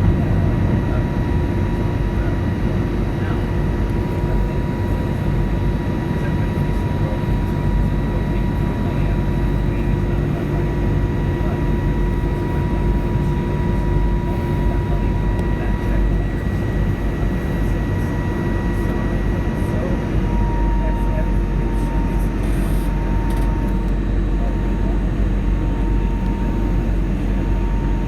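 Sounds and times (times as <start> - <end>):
engine and airflow roar: 0.0 - 28.0
steady whine tones: 0.0 - 28.0.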